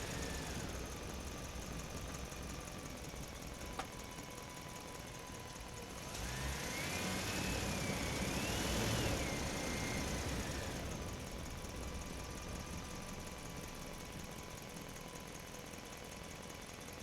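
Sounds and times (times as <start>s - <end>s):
truck engine and tyres: 0.0s - 17.0s.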